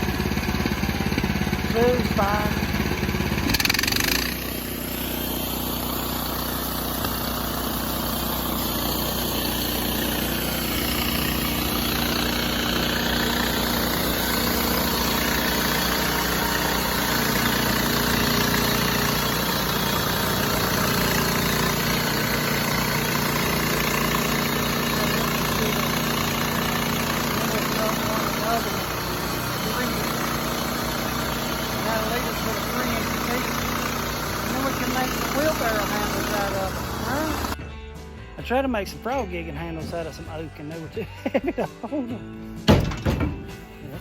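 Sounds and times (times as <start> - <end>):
saw cutting through log: 0.0 - 37.6
sawmill engine running: 0.0 - 37.6, 42.6 - 44.0.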